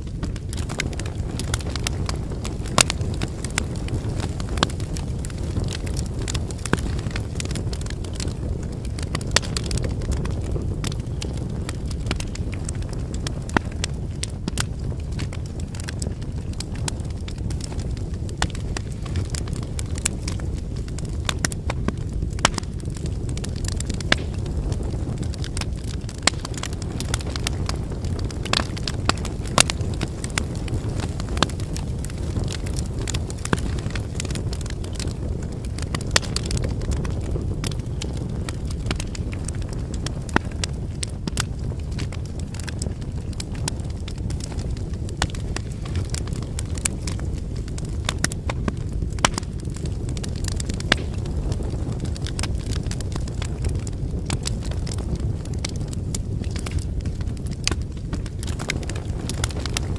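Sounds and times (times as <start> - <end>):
fire flames rushing: 0.0 - 59.9
firewood crackling and popping: 0.0 - 59.9.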